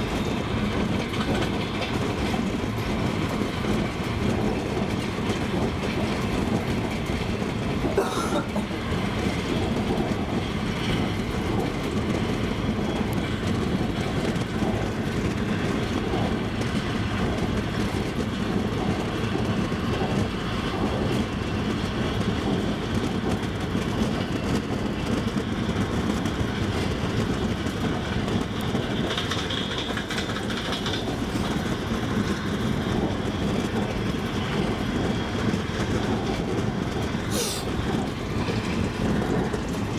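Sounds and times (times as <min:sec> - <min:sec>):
clickety-clack of rail joints: 0:00.0 - 0:39.9
train wheels rumbling on rails: 0:00.0 - 0:39.9.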